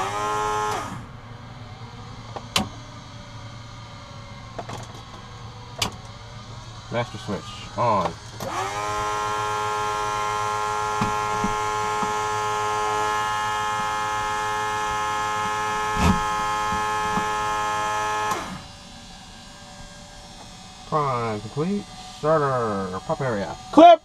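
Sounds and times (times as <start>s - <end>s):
electric fuel pump humming: 0.0s - 24.0s.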